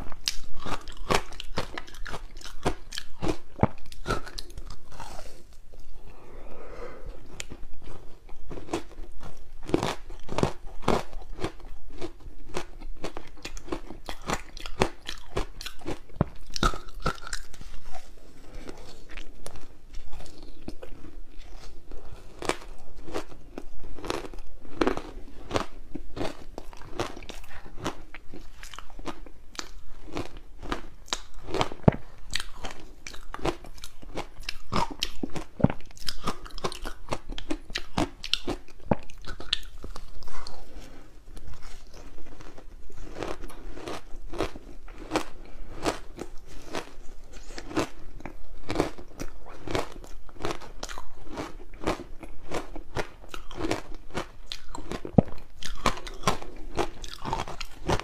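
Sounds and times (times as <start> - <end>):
chewing crunchy ice: 0.0 - 5.5, 7.2 - 58.0.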